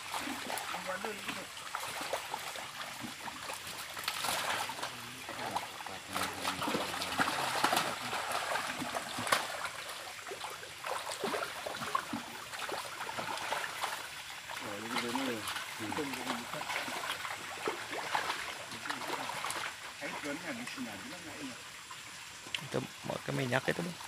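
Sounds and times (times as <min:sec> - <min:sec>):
splashing in shallow water: 0:00.0 - 0:24.0
trickle of running water: 0:00.0 - 0:24.0.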